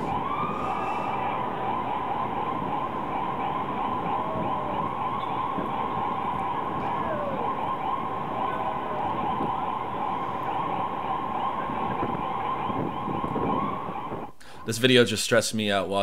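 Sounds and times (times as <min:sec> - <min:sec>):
heavy city traffic: 0:00.0 - 0:14.4
ambulance siren wailing: 0:00.0 - 0:15.0.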